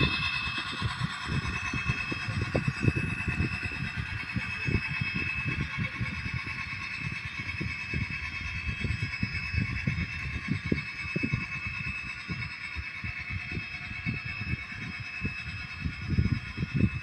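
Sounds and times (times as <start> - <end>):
model train whine: 0.0 - 17.0
train clatter and rumble: 0.0 - 17.0.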